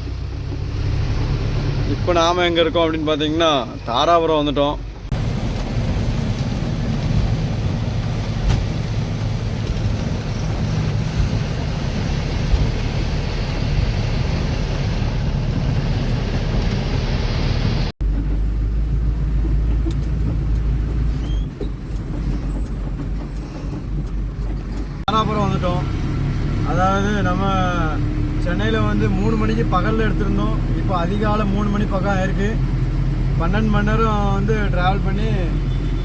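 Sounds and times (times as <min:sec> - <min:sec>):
deep steady engine hum: 0:00.0 - 0:36.0
truck diesel engine rumble: 0:00.0 - 0:36.0.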